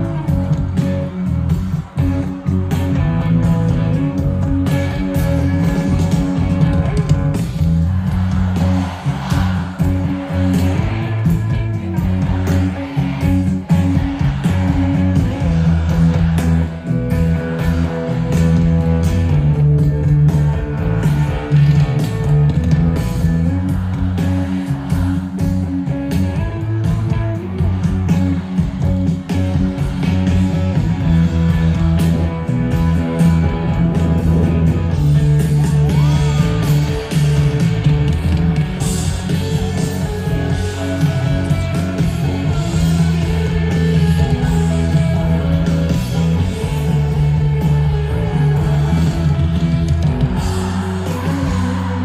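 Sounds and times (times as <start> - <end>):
bass line: 0.0 - 52.0
electric guitar playing: 0.0 - 52.0
live rock band music: 0.0 - 52.0.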